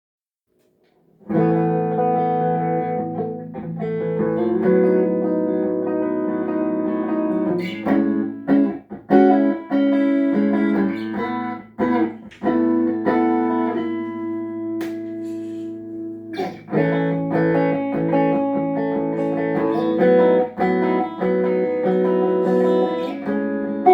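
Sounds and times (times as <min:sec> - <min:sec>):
electric guitar chords and notes: 0:01.2 - 0:23.9.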